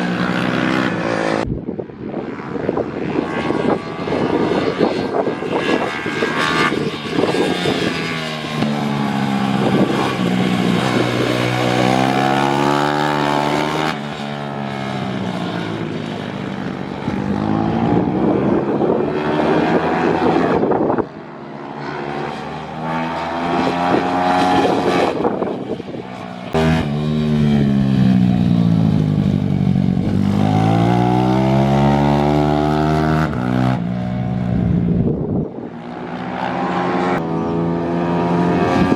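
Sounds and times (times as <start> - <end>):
pit bike engines revving: 3.0 - 34.6, 35.6 - 38.9.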